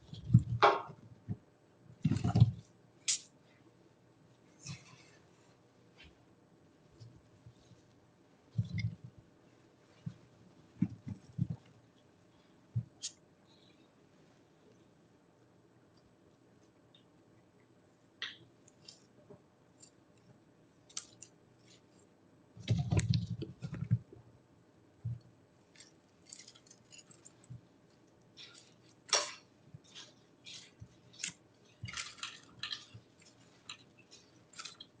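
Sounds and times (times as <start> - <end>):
guinea pigs rustling and nibbling: 0.0 - 35.0.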